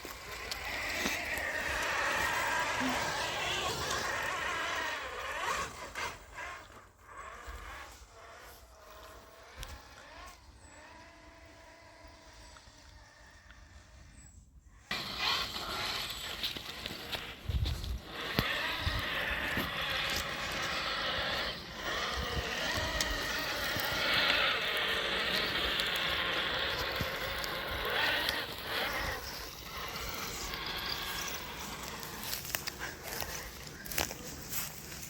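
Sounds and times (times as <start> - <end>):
toy car electric motor whining: 0.0 - 35.0.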